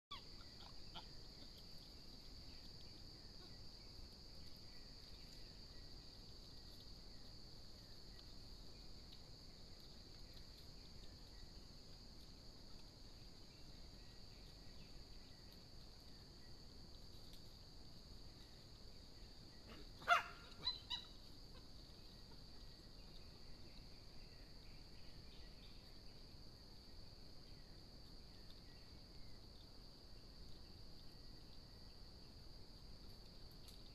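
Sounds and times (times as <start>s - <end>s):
high-pitched insect chorus: 0.1s - 33.9s.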